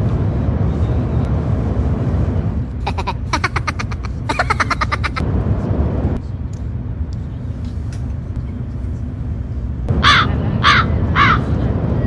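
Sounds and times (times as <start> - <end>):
train rumble inside cabin: 0.0 - 12.0.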